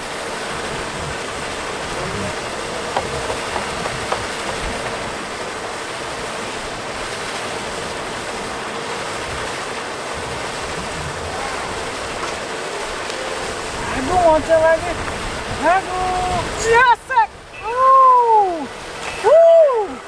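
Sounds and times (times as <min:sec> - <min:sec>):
wind buffeting microphone: 0:00.0 - 0:08.4, 0:09.2 - 0:20.0
sea surf washing in: 0:00.0 - 0:20.0.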